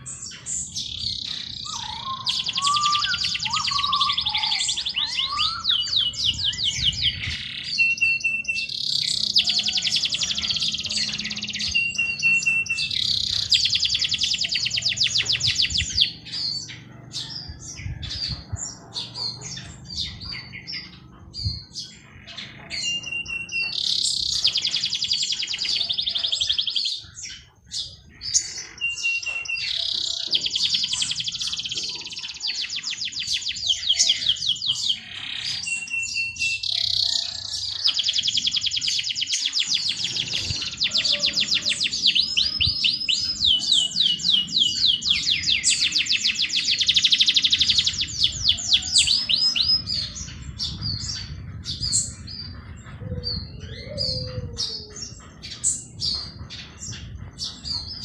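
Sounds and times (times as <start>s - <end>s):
bird chirps: 0.0s - 58.0s
bird whistle and trill song: 0.0s - 58.0s.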